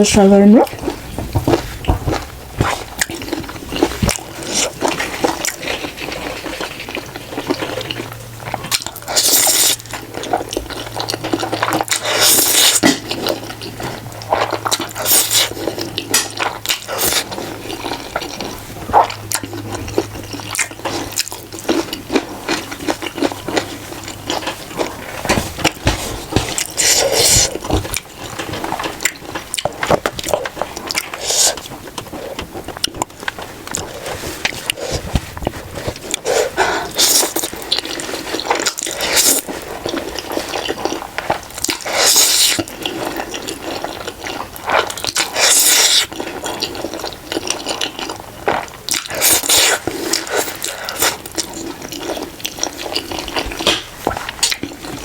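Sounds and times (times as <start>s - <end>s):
chewing: 0.6s - 55.0s
noodles slurped: 0.7s - 55.0s.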